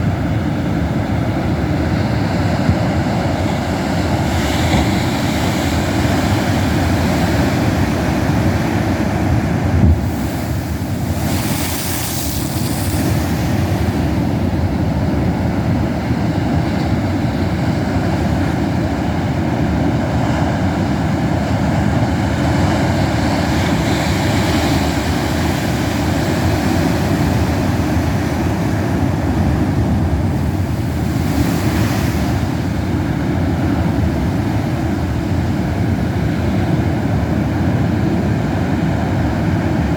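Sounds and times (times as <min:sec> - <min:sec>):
waves crashing against cliffs: 0:00.0 - 0:39.9.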